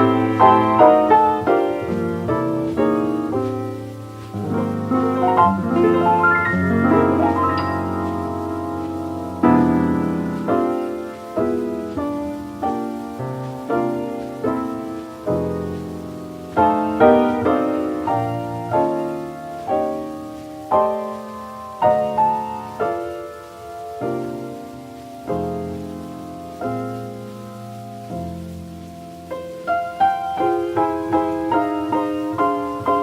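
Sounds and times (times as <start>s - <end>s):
jazz piano chords: 0.0s - 33.0s.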